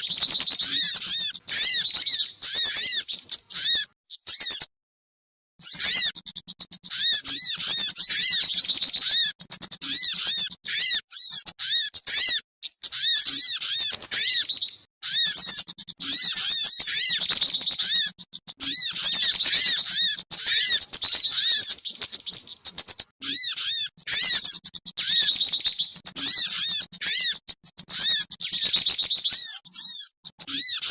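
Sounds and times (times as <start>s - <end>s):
songbirds chattering: 0.0s - 4.7s, 5.6s - 30.9s.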